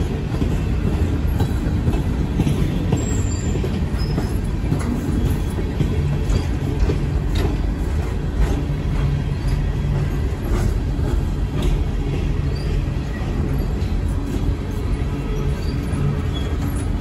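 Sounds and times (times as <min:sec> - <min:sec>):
freight cars rumbling: 0:00.0 - 0:17.0.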